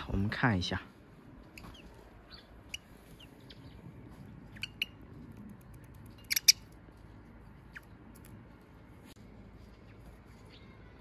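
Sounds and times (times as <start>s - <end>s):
small birds chirping: 1.4s - 11.0s.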